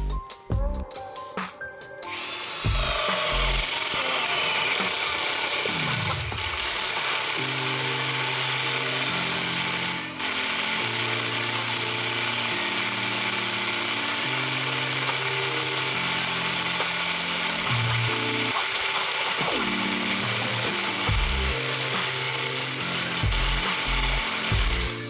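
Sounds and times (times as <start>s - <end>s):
cordless impact driver running: 2.0s - 25.0s.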